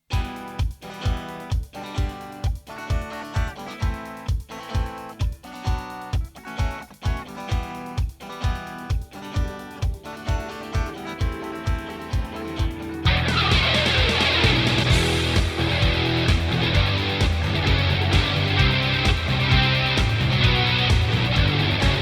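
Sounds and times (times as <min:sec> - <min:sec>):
rock backing track: 0:00.0 - 0:22.0
steady kick drum: 0:00.0 - 0:22.0
electric guitar playing chords: 0:00.1 - 0:22.0.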